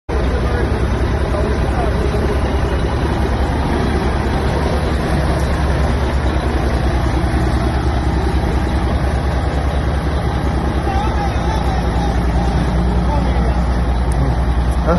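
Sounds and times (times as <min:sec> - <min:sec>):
diesel truck engine rumbling: 0:00.1 - 0:14.9.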